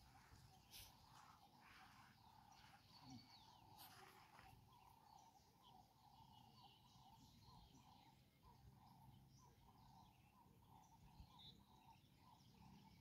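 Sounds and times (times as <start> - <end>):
distant bird chirps: 0.0 - 13.0.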